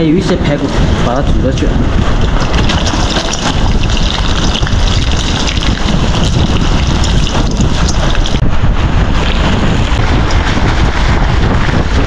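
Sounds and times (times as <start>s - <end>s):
wind blowing on microphone: 0.0s - 12.0s.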